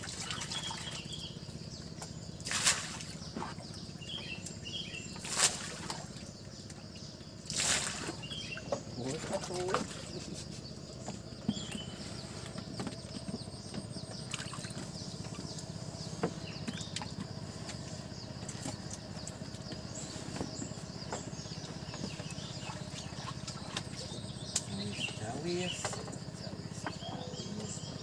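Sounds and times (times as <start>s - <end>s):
bird chirps: 0.0s - 28.0s
distant motor humming: 0.0s - 28.0s.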